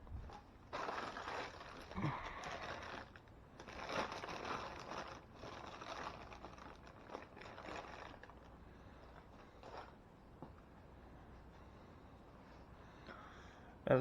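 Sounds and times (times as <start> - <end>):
rustling and scraping handling noises: 0.0 - 11.7.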